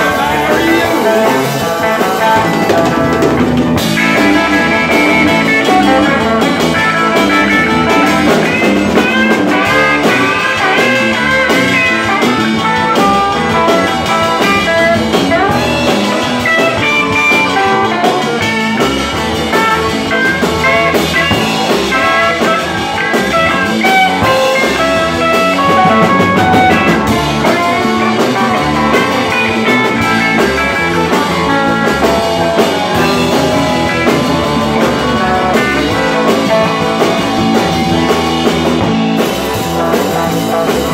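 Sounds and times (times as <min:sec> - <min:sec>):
bass guitar: 0:00.0 - 0:40.9
drum kit: 0:00.0 - 0:40.9
electric guitar lead: 0:00.0 - 0:40.9.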